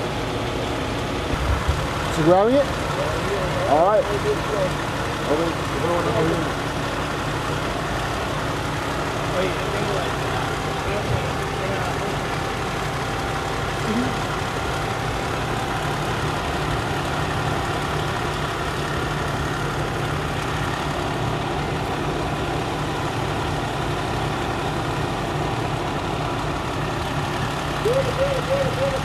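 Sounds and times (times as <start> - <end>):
fire engine idling: 0.0 - 29.0.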